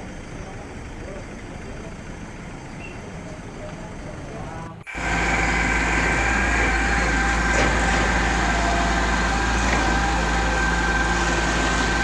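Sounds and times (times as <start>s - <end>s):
diesel machinery running: 0.0s - 12.0s.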